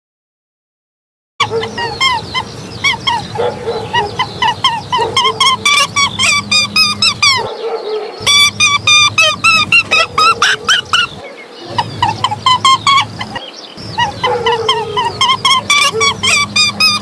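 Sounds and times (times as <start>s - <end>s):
short high animal calls: 1.4s - 17.0s.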